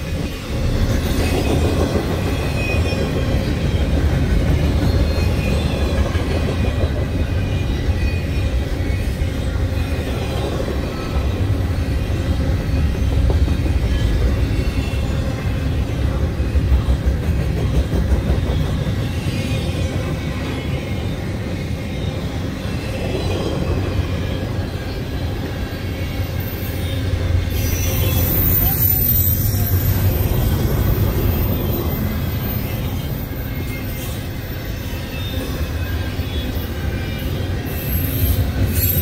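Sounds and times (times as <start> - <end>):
freight train wheels rumbling on rail: 0.0 - 39.0.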